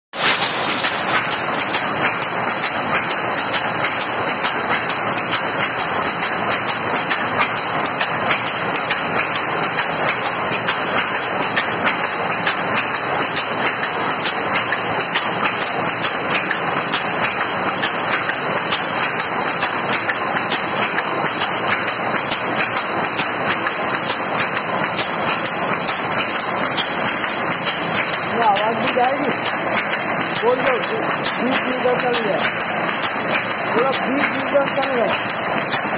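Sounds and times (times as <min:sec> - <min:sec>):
loom clattering: 0:00.2 - 0:35.9.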